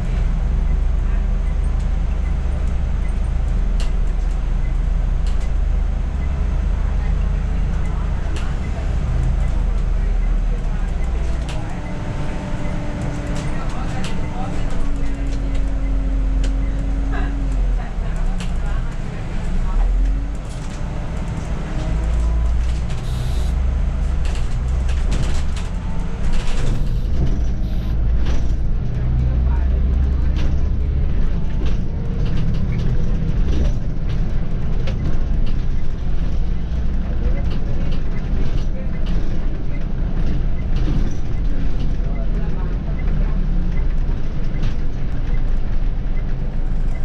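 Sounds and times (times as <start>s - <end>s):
bus engine droning: 0.0s - 47.0s.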